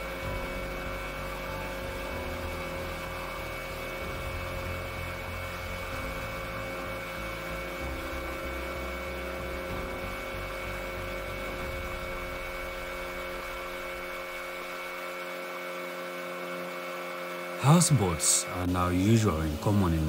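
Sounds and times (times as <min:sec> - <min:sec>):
outboard motor droning: 0:00.0 - 0:20.0.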